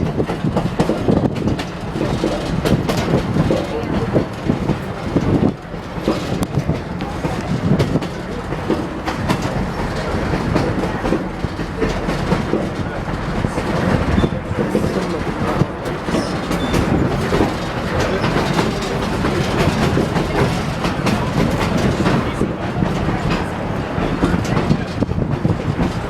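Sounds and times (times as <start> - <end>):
train rumble: 0.0 - 26.0
train wheels clacking over rail joints: 0.0 - 26.0.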